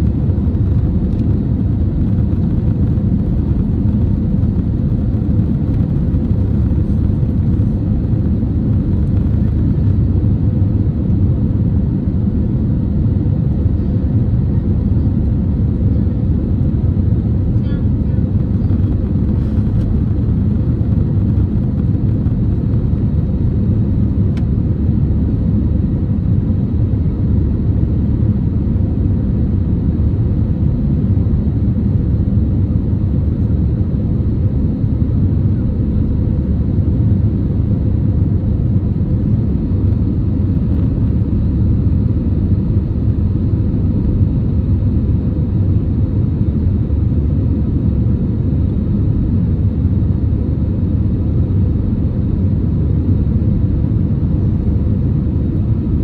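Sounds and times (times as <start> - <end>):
jet cabin engine rumble: 0.0 - 56.0.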